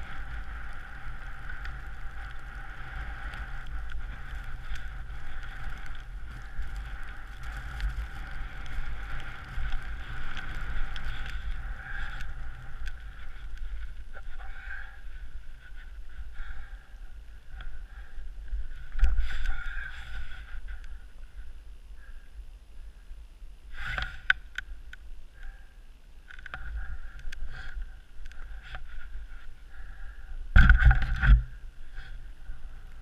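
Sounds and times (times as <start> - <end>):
wind rumbling on microphone: 0.0 - 33.0.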